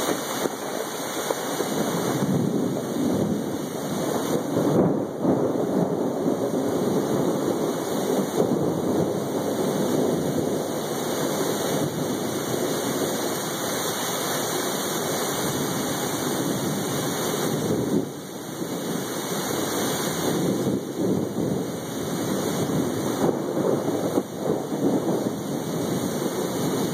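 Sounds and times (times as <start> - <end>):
rain falling: 0.0 - 26.9
rolling thunder: 0.0 - 26.9.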